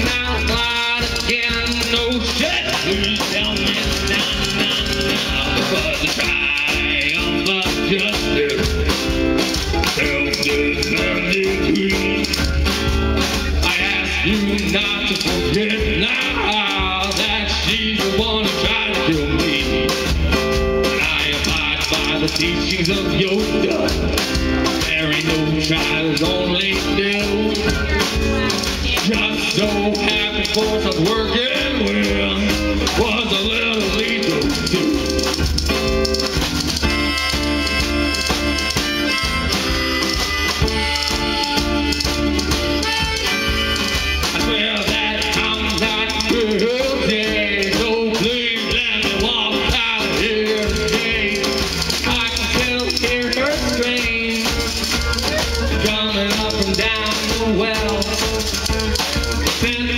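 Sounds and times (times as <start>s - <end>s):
guitar bending notes: 0.0s - 59.9s
live rock band playing: 0.0s - 59.9s.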